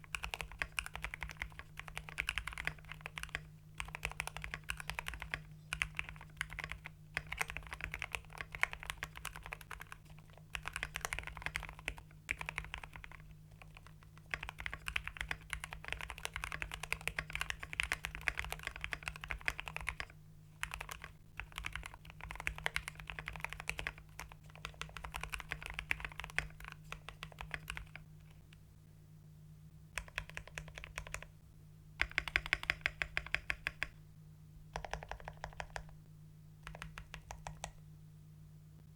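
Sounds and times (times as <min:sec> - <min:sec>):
mechanical keyboard typing: 0:00.0 - 0:28.4, 0:30.0 - 0:31.3, 0:32.0 - 0:34.0, 0:34.7 - 0:36.0, 0:36.6 - 0:37.8.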